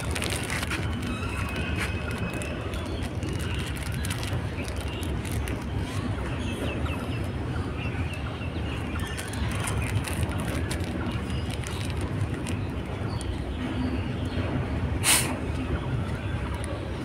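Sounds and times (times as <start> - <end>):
wagons clicking and rattling: 0.0 - 14.7
train wheels rumbling on rail: 0.0 - 17.0.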